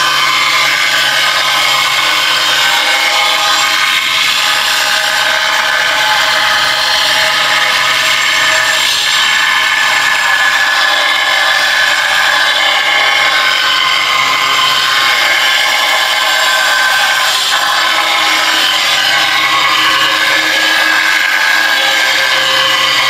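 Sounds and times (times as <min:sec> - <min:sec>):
angle grinder cutting tile: 0:00.0 - 0:23.0.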